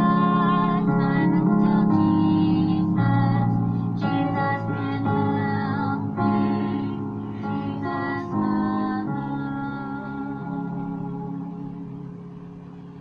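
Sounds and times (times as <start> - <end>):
woman singing: 0.0 - 11.9
sustained chords: 0.0 - 13.0.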